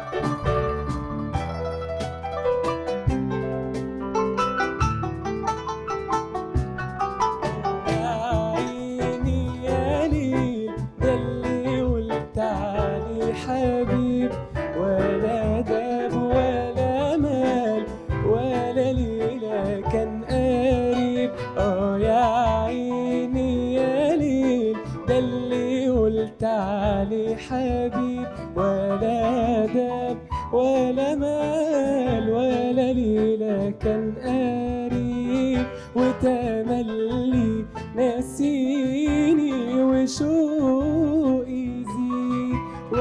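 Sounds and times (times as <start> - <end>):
band of plucked strings: 0.0 - 43.0
man singing into a microphone: 7.9 - 43.0.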